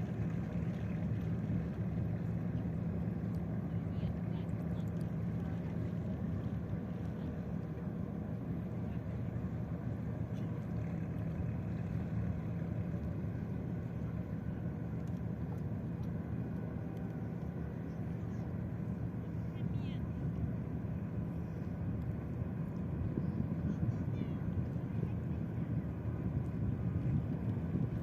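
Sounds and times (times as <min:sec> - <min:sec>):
ship engines rumbling: 0:00.0 - 0:28.0.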